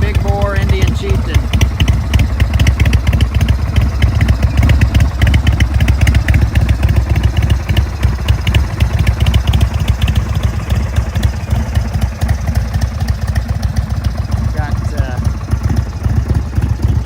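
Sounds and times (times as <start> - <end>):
motorcycle engine idling: 0.0 - 17.0
rapid engine ticking: 0.0 - 17.0.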